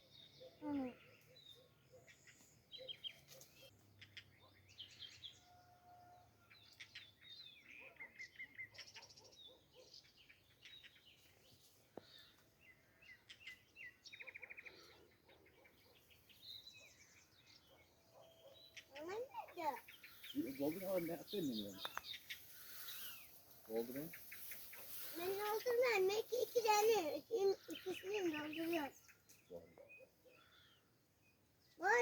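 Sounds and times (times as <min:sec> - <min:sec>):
faint small birds chirping: 0:00.0 - 0:32.0.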